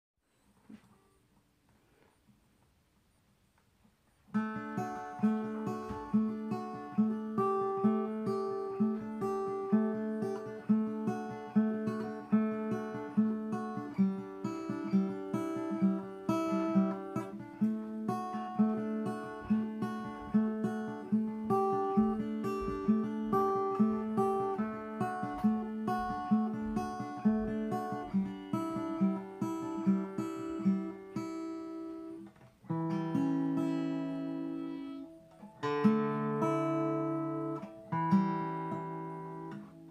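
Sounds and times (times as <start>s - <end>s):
acoustic guitar strumming chords: 4.3s - 39.9s.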